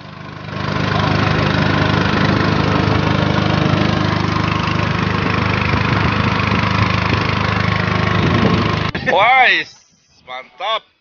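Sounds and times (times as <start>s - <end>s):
small engine running steadily: 0.0s - 10.1s.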